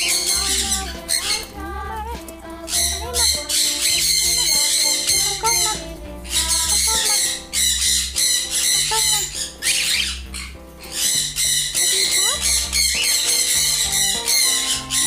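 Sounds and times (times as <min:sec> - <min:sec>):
cockatiels squawking: 0:00.0 - 0:01.6, 0:02.6 - 0:15.0
background music with bass line: 0:00.0 - 0:15.0.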